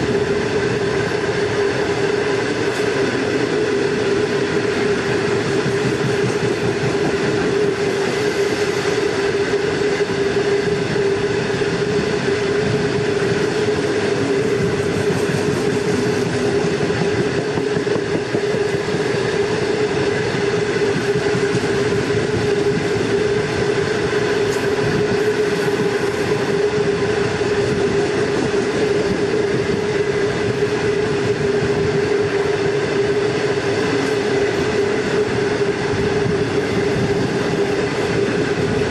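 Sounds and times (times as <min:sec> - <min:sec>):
train wheels on rails: 0:00.0 - 0:38.9.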